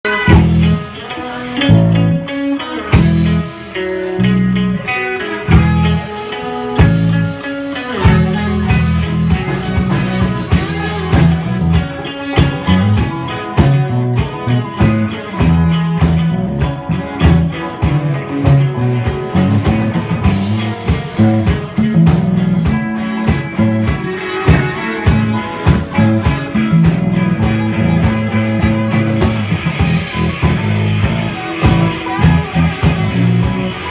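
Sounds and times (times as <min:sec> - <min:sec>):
blues-rock band playing: 0:00.0 - 0:33.9.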